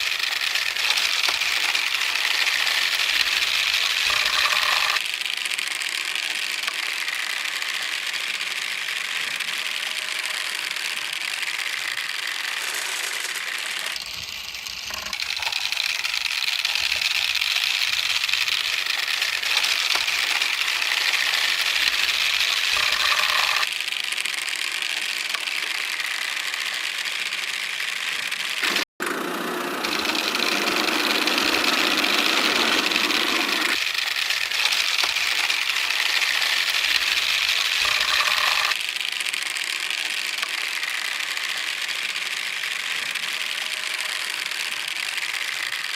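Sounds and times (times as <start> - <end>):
marbles rolling on tracks: 0.0 - 45.9.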